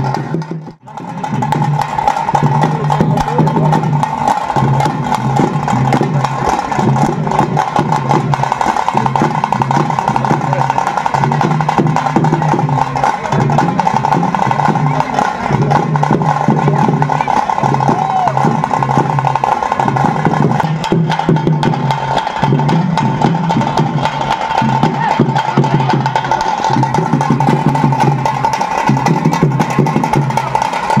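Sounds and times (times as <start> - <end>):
drums beaten fast with sticks: 0.0 - 31.0
low repeating drum tone: 0.0 - 31.0.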